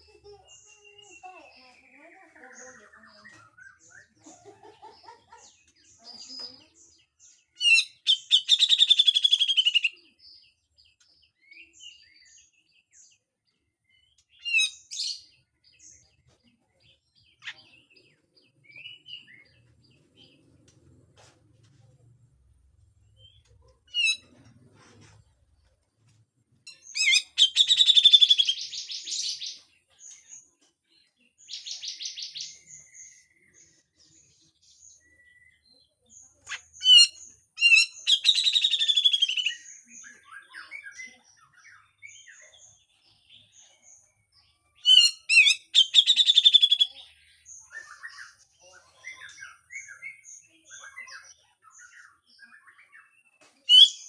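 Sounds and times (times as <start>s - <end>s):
soft bird chirps: 0.0s - 54.0s.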